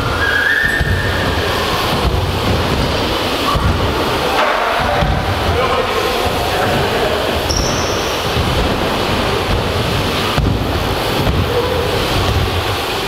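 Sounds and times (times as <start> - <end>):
bike tyres rumbling on ramps: 0.0 - 13.0.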